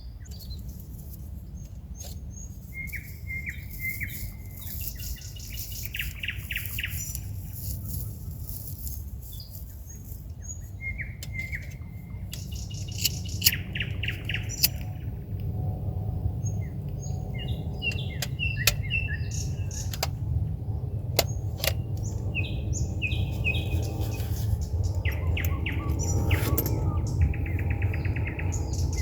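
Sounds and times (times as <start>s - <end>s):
songbird singing: 0.0s - 29.0s
steady low rumble: 0.0s - 29.0s.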